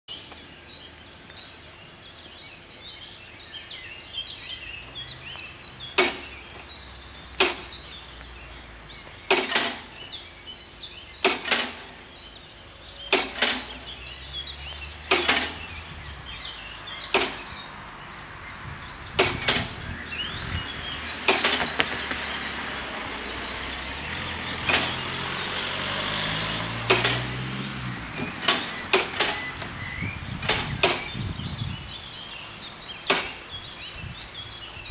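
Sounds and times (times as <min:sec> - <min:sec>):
birds chirping faintly: 0:00.1 - 0:34.9.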